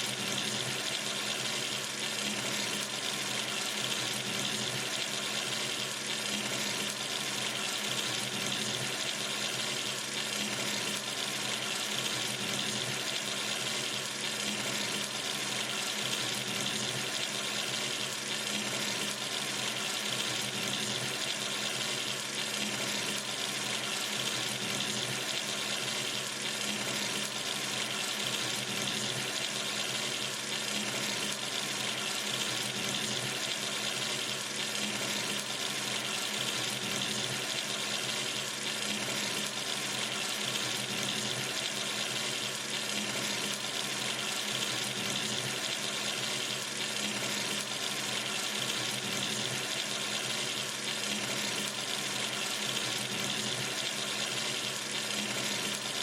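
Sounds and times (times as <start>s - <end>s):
water running from sink tap: 0.0s - 56.0s.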